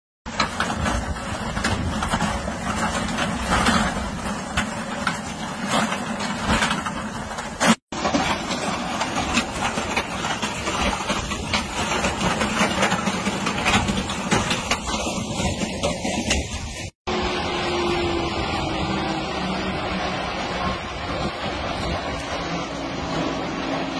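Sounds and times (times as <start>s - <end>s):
machine engine clattering: 0.3s - 23.9s.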